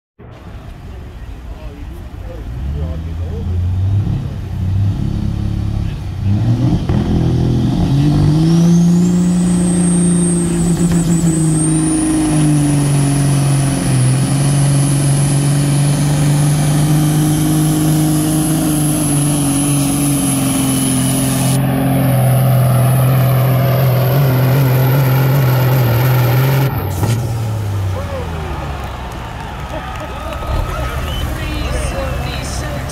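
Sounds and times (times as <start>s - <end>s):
diesel truck engine at full throttle: 0.2s - 32.9s.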